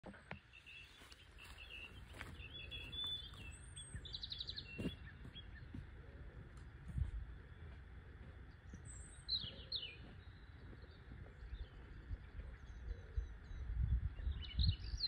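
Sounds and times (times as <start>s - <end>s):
songbirds singing: 0.0s - 15.0s
low background rumble: 1.9s - 15.0s.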